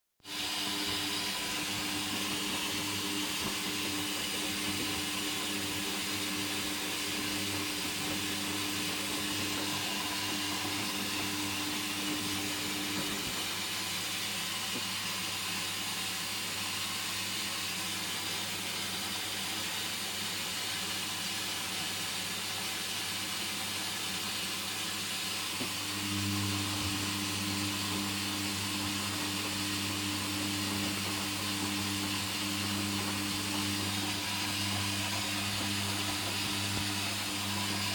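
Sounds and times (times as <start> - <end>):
washing machine water hiss: 0.2 - 37.9.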